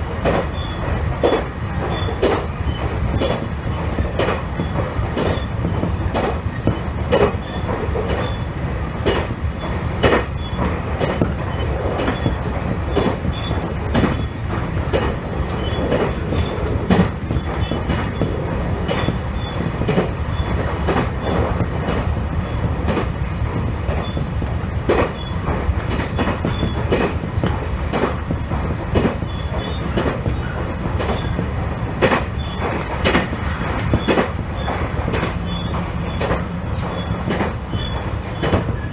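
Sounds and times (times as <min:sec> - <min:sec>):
train wheels rumbling on rail: 0:00.0 - 0:38.9
wheels clicking over rail joints: 0:00.2 - 0:08.4, 0:09.0 - 0:38.9.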